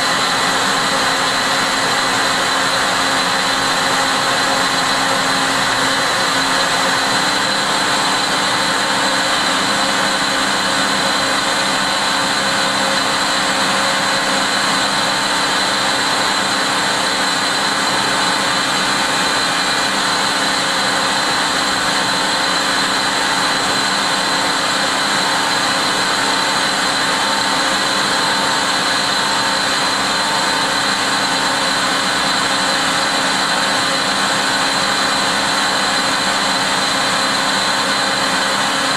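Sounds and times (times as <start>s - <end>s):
coolant spraying: 0.0s - 38.9s
lathe cutting with high whine: 0.0s - 38.9s.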